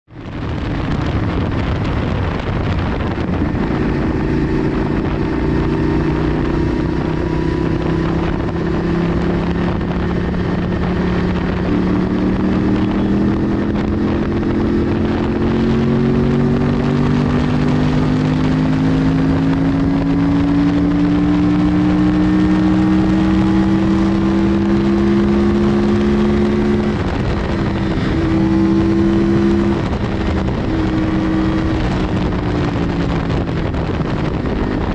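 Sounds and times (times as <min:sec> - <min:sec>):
motorcycle engine revving: 0:00.1 - 0:34.9
wind rushing over microphone: 0:00.1 - 0:34.9.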